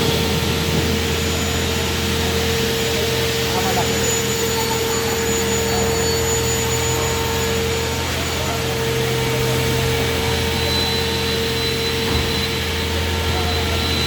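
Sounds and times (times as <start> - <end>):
beam saw machine drone: 0.0 - 14.0
steady whine: 0.0 - 14.0.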